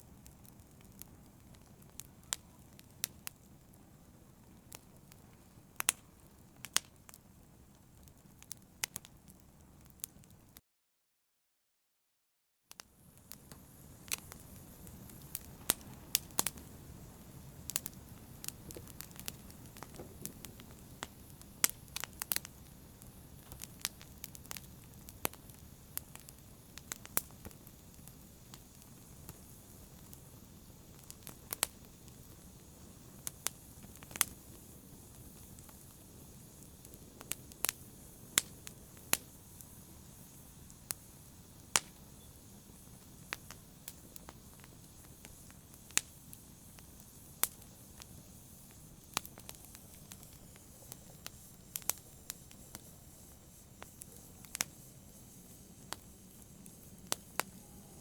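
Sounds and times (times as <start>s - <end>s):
hiss of burning: 0.0s - 10.4s, 12.7s - 58.0s
fire crackling and popping: 0.0s - 10.6s, 12.7s - 58.0s.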